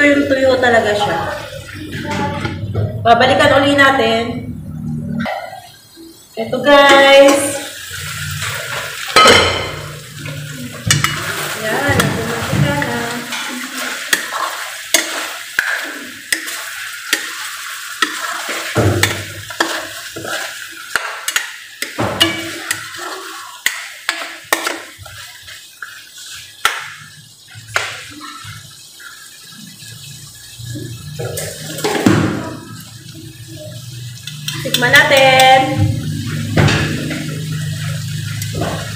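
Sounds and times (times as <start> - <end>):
sauce sizzling and bubbling: 0.0 - 38.9.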